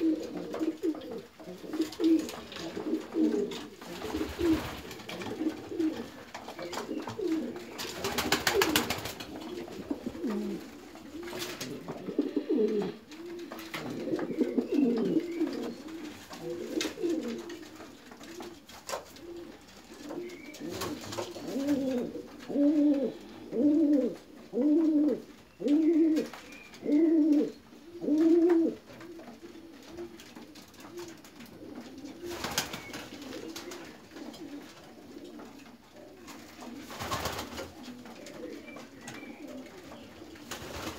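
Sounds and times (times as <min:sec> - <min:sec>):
pigeons cooing: 0:00.0 - 0:40.9
rustling: 0:00.0 - 0:40.9.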